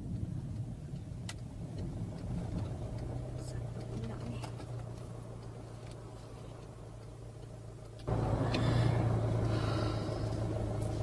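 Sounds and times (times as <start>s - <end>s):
car engine hum: 0.0s - 11.0s
road noise inside car: 0.0s - 11.0s.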